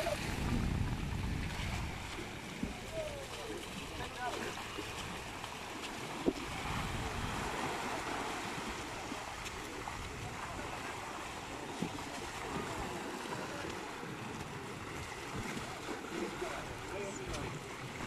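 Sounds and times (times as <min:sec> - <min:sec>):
small waves washing on sand: 0:00.0 - 0:18.0
wind on microphone: 0:00.0 - 0:18.0.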